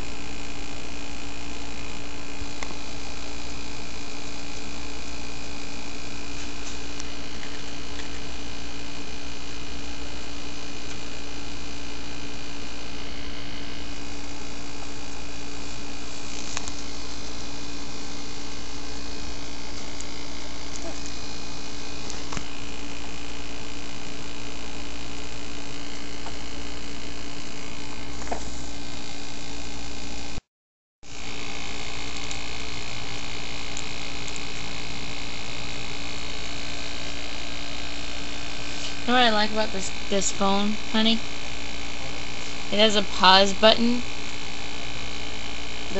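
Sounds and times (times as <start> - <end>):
electrical hum: 0.0 - 30.4, 31.1 - 45.9.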